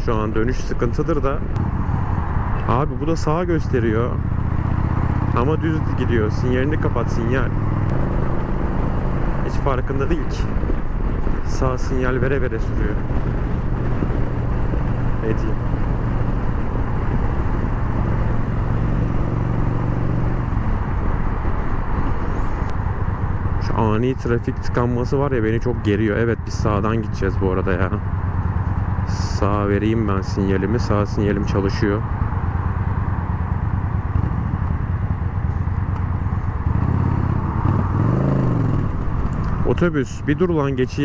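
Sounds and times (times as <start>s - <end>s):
motorcycle engine humming: 0.0s - 41.0s
wind and road noise: 0.0s - 41.0s.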